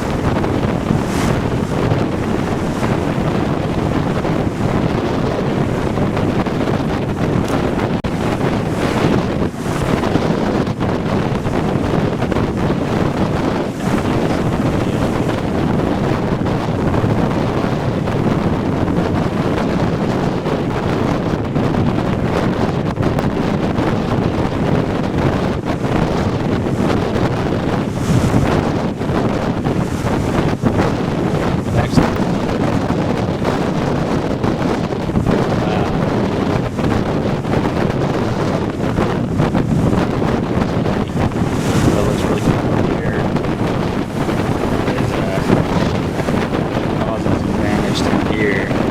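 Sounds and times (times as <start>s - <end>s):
storm surf breaking on beach: 0.0s - 48.9s
strong wind buffeting microphone: 0.0s - 48.9s.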